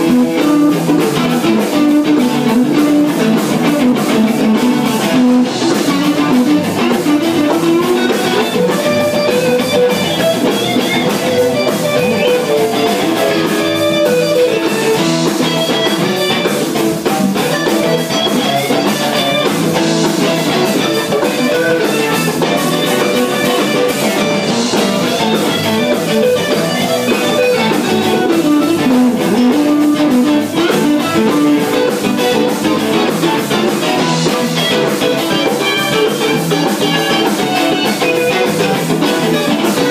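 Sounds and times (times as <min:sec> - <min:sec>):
drums: 0:00.0 - 0:39.9
guitars playing: 0:00.0 - 0:39.9.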